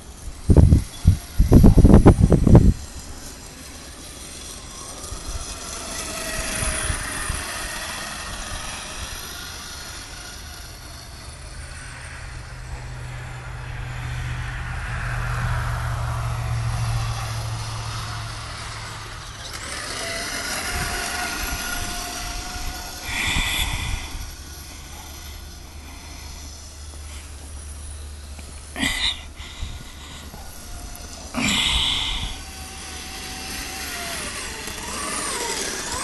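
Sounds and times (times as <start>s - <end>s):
toy electric motor whining: 0.0s - 14.3s, 14.9s - 36.0s.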